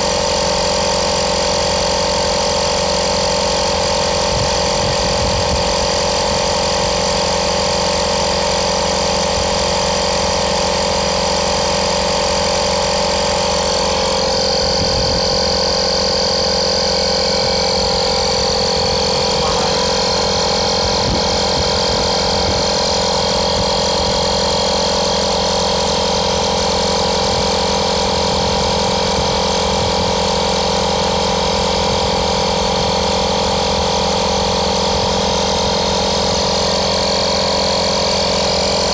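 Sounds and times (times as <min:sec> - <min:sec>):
electric air compressor humming: 0:00.0 - 0:38.9.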